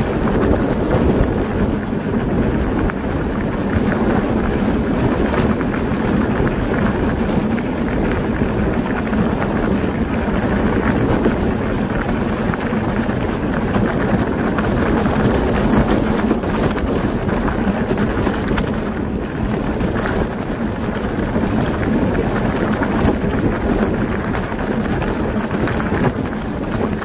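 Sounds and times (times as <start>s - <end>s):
bike tyres rolling on gravel: 0.0s - 27.0s
wind buffeting microphone: 0.0s - 27.0s.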